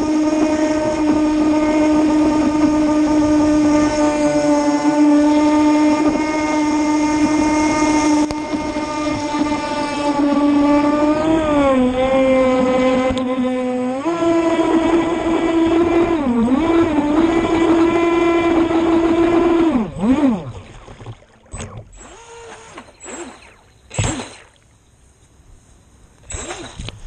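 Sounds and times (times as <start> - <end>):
electric boat motor whining: 0.0 - 24.9, 26.2 - 27.0
water sounds: 0.0 - 25.2, 26.1 - 27.0.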